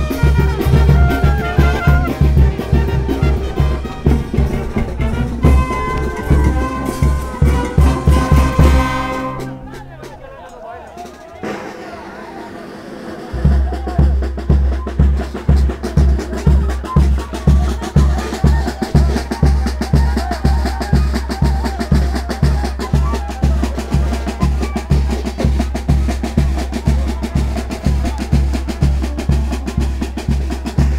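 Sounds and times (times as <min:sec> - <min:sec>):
hand percussion: 0:00.0 - 0:09.5, 0:13.3 - 0:30.9
bass drum beating: 0:00.0 - 0:09.6, 0:13.3 - 0:30.9
brass band playing: 0:00.0 - 0:30.9.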